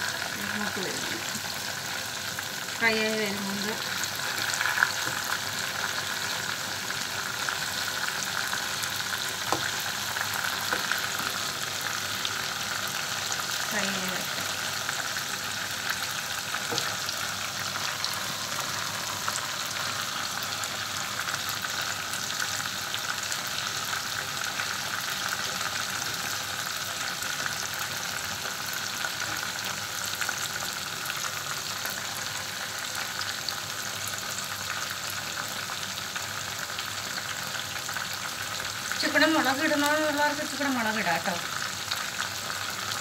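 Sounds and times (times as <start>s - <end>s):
chicken deep-frying in oil: 0.0s - 43.0s.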